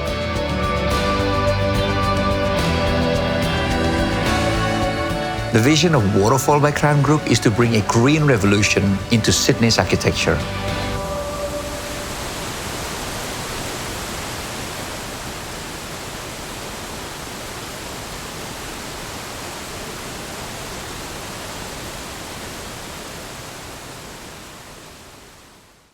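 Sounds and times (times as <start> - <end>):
waterfall roaring: 2.7 - 25.6.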